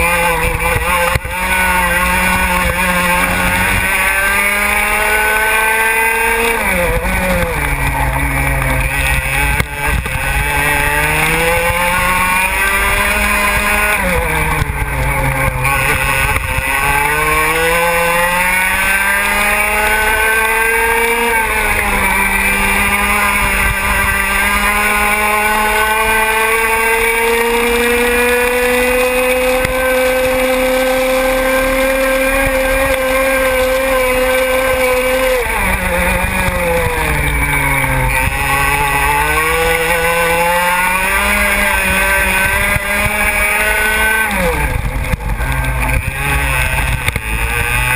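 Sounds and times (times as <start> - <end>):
kart engine at full throttle: 0.0 - 47.9.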